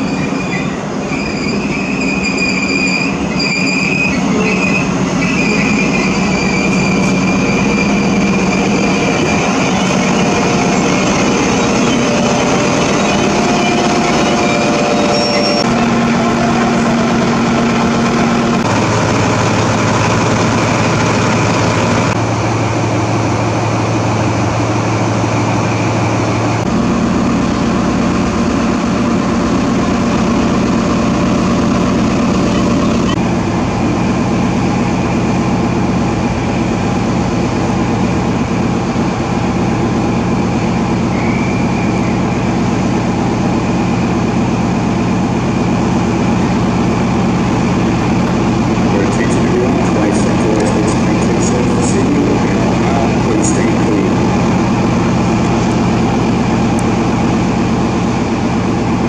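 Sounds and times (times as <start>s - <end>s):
diesel train engine idling: 0.0s - 59.0s.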